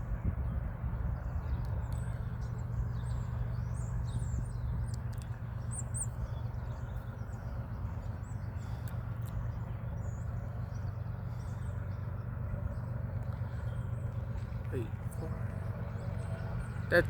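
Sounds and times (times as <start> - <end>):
low engine rumble: 0.0 - 17.0
small birds chirping: 0.4 - 17.0.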